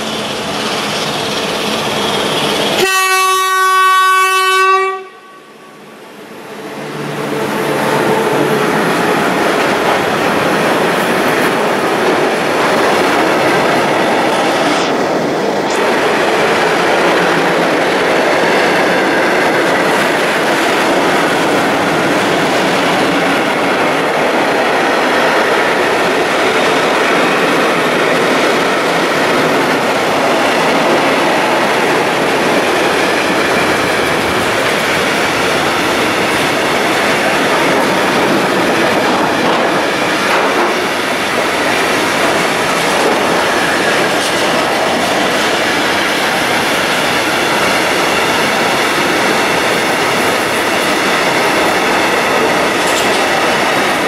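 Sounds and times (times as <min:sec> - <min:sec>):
train wheels on rails: 0:00.0 - 0:05.2, 0:06.0 - 0:54.0.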